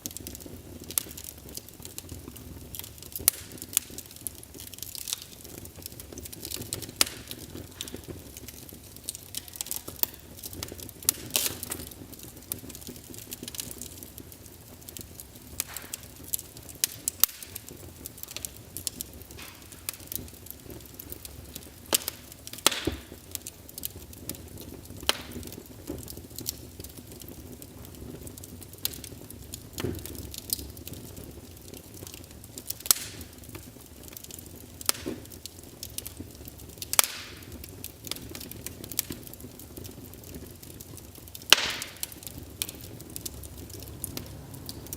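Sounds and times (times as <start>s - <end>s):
fire crackling and popping: 0.0s - 44.9s
low rumble of flame: 0.0s - 44.9s.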